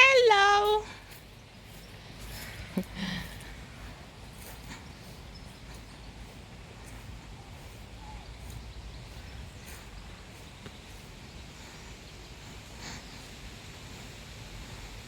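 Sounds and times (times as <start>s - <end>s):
steady low rumble: 0.8s - 15.0s.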